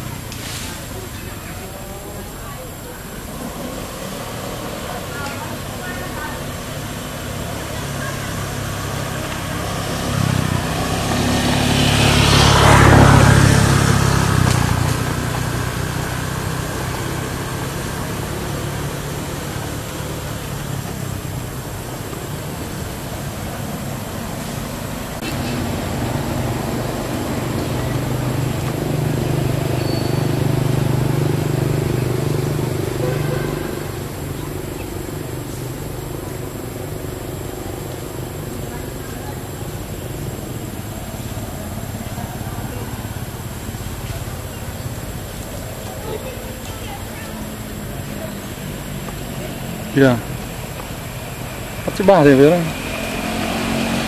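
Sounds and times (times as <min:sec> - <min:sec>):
engine humming: 0:00.0 - 0:54.0
motor vehicle passing: 0:00.0 - 0:54.0.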